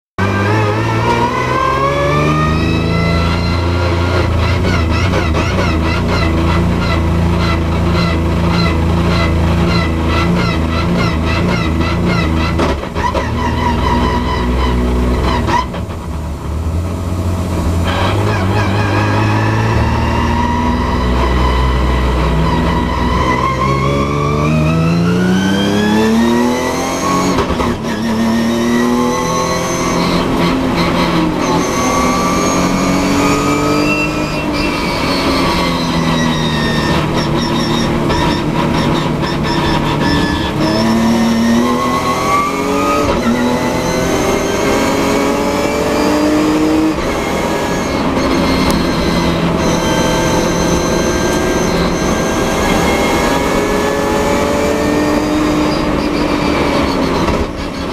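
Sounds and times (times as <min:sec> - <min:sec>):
race car engine accelerating: 0:00.2 - 0:57.9.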